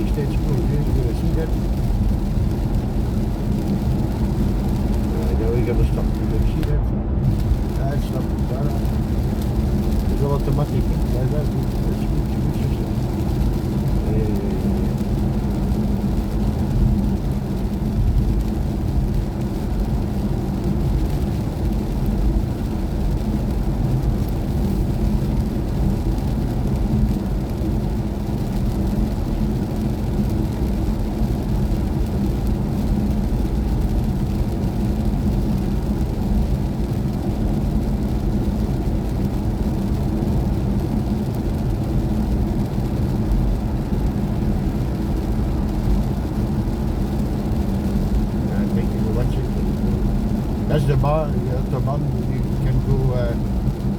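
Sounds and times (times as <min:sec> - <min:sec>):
road and tyre rumble: 0:00.0 - 0:53.9.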